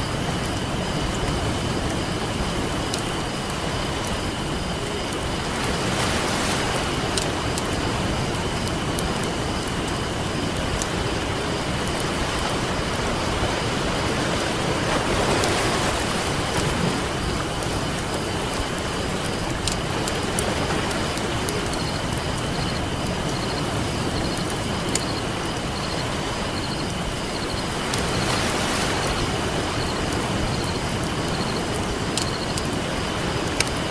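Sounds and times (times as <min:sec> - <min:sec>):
campfire crackling: 0:00.0 - 0:33.9
ocean surf on beach: 0:00.0 - 0:33.9.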